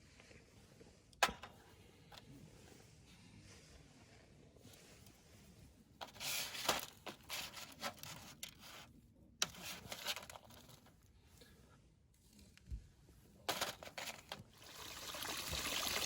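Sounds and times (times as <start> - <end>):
rustling handling noises: 0.0 - 14.6.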